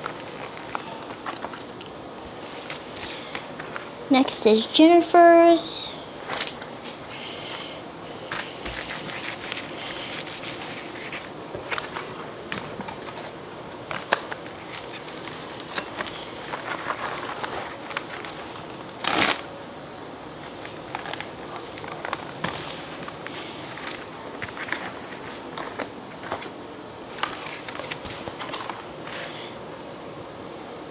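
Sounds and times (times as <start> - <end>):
packaging crinkling: 0.0 - 4.1, 6.2 - 7.0, 8.3 - 19.7, 20.4 - 29.7.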